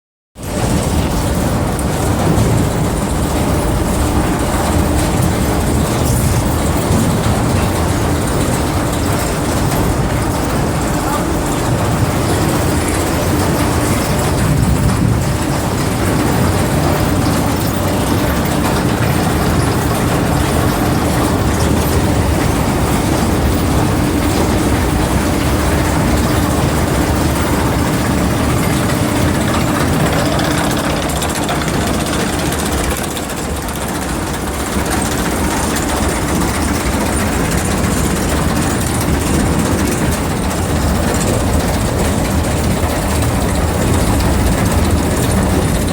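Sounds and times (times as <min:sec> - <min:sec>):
heavy machine drone: 0:00.4 - 0:45.9.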